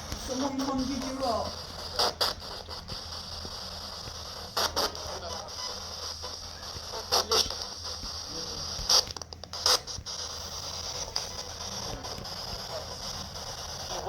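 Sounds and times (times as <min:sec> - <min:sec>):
radio static hiss: 0:00.0 - 0:14.0
short loud radio blips: 0:00.0 - 0:14.0.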